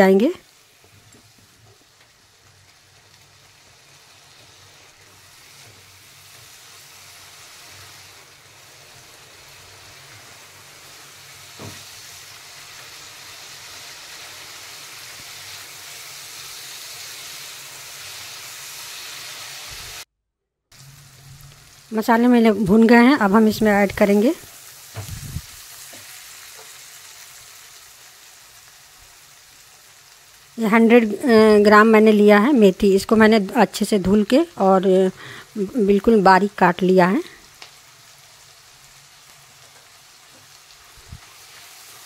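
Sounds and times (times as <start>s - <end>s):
spices sizzling in oil: 0.0s - 20.1s, 20.7s - 42.0s.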